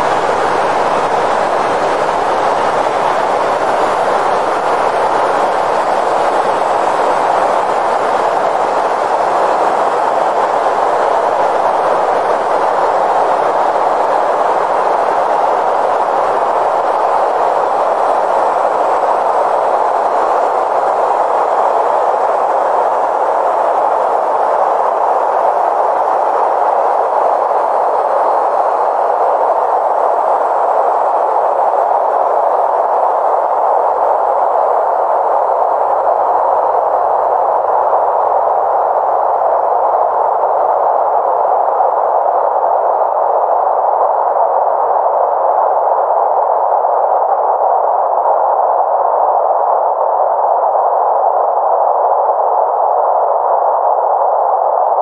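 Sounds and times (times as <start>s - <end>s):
filtered noise drone: 0.0s - 55.0s.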